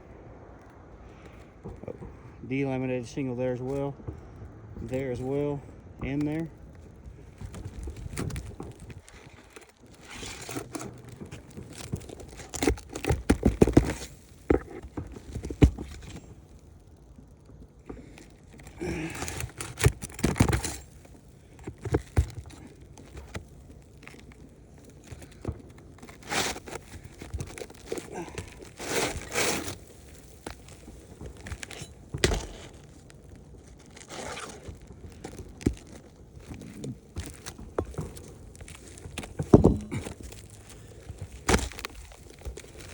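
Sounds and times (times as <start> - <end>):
shingles scraping and rustling: 1.2 - 42.9.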